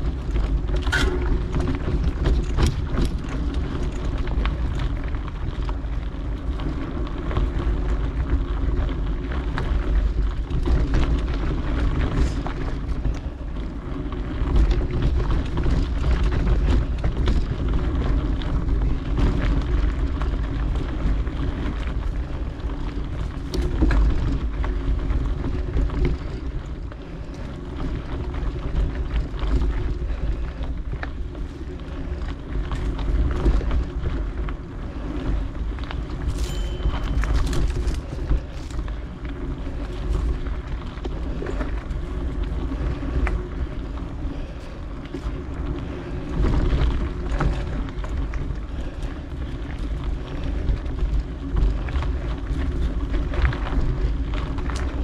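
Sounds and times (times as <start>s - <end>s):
bike clicks and rattles: 0.0s - 55.0s
wind buffeting microphone: 0.0s - 55.0s.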